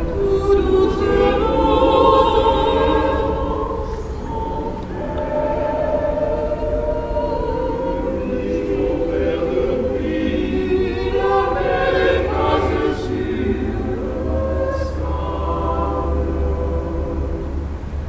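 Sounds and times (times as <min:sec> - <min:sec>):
mixed choir singing unaccompanied: 0:00.0 - 0:18.0.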